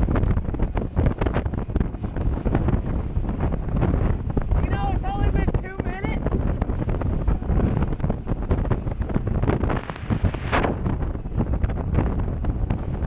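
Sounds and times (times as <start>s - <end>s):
boat through choppy waves: 0.0s - 13.0s
wind buffeting microphone: 0.0s - 13.0s.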